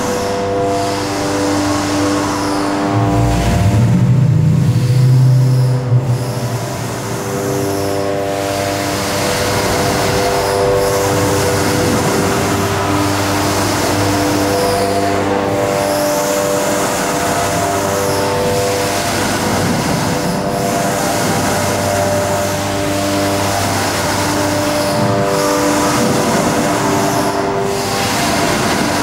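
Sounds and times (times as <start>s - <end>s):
machine whining tones: 0.0s - 29.0s.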